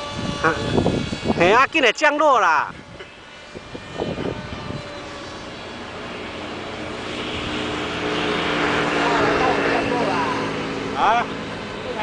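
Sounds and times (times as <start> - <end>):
model jet motor whine: 0.0 - 12.0.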